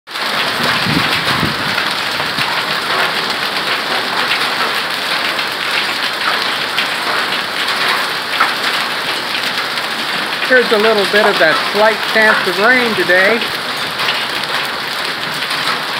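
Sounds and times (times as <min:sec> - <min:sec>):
heavy rain and hail pelting: 0:00.1 - 0:15.9.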